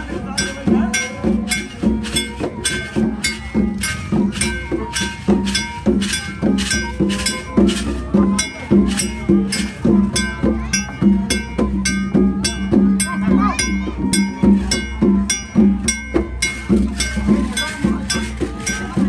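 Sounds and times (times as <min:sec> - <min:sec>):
low drum or gong beats: 0:00.0 - 0:19.0
ringing metallic percussion strikes: 0:00.0 - 0:19.0.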